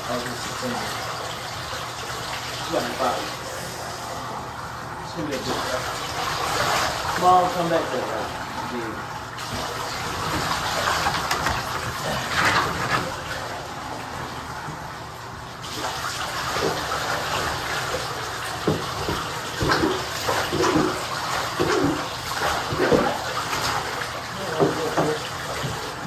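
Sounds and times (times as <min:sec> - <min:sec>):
short water splashes: 0:00.0 - 0:26.0
water running in bathtub: 0:00.0 - 0:26.0.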